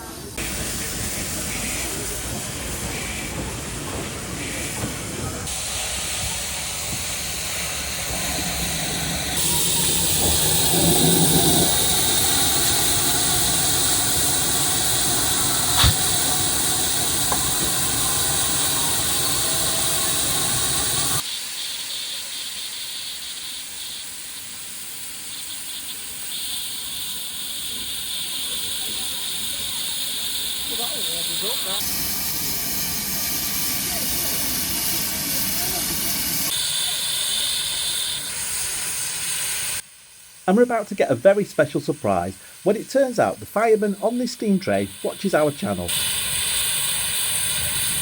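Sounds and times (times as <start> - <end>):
steam locomotive hissing: 0.0 - 48.0.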